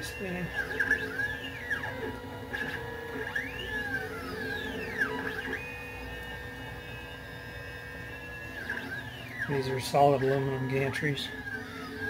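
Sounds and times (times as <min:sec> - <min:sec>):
steady tones: 0:00.0 - 0:12.0
stepper motors whining: 0:00.0 - 0:12.0.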